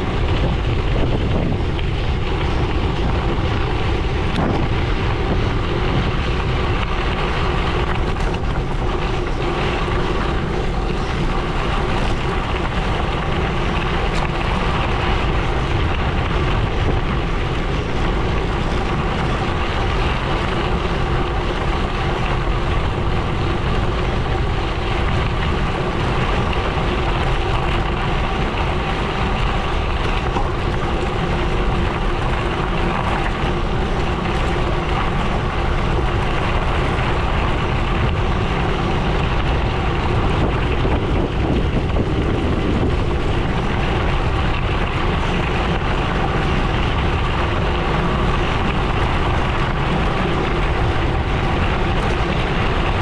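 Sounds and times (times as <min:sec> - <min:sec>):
bike tyres on gravel: 0:00.0 - 0:53.0
wind buffeting microphone: 0:00.0 - 0:53.0.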